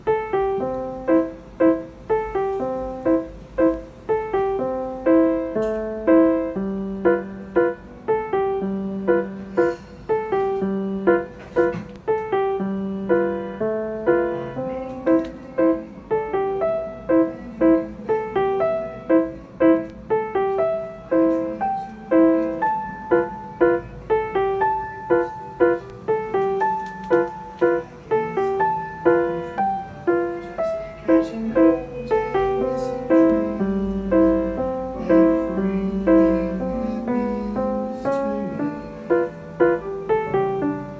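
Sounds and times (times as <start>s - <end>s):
gentle solo piano: 0.0s - 40.9s.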